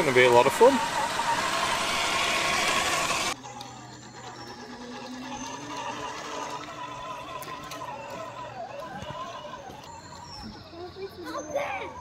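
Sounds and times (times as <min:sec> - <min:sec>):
toy truck motor whining: 0:00.0 - 0:12.0.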